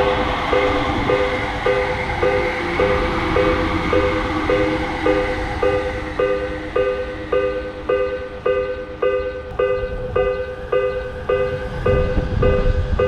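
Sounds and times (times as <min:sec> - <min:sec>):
low rumble: 0:00.0 - 0:13.0
railroad crossing bell ringing: 0:00.0 - 0:13.0.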